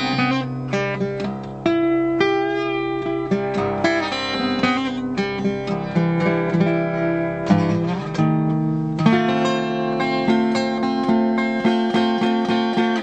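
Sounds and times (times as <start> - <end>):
acoustic guitar picked notes: 0.0 - 13.0.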